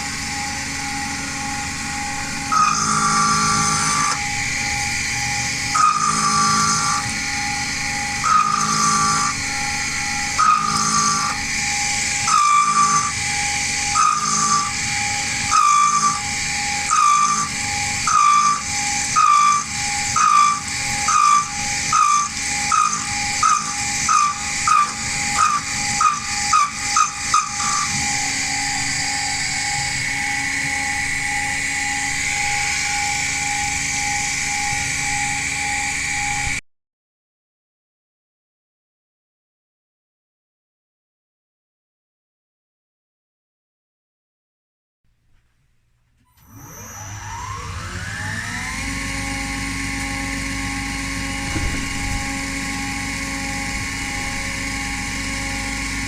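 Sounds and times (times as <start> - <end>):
milling machine spindle whine: 0.0 - 36.6, 46.4 - 56.0
stepper motor short whines: 0.0 - 36.6, 46.2 - 56.0.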